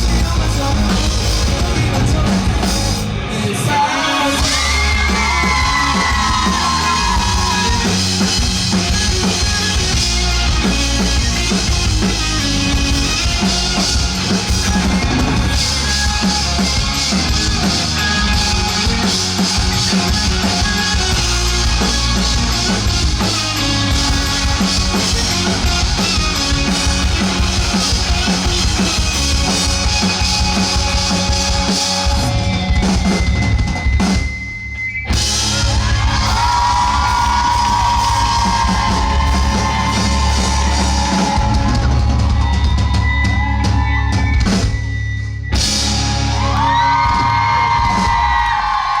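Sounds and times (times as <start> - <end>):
rock band playing live: 0.0 - 49.0.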